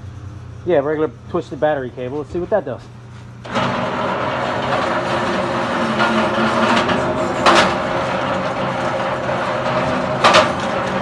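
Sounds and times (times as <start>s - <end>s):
wire stripper machine humming: 0.0s - 11.0s.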